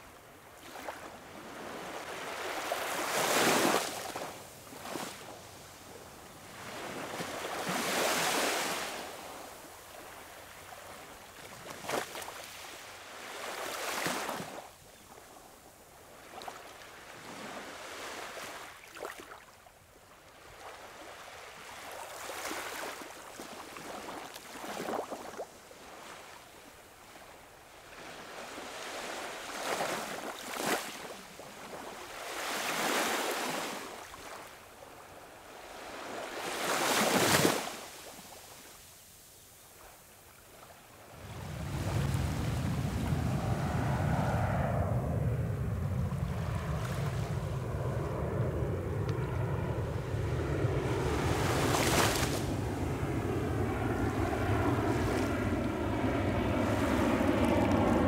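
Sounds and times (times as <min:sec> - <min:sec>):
small waves washing on beach: 0:00.0 - 0:44.7, 0:46.2 - 0:48.4, 0:49.1 - 0:58.0.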